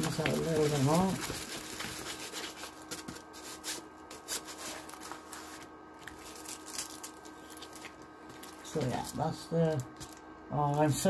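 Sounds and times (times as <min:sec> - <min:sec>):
canvas rustling and crinkling: 0:00.0 - 0:09.1.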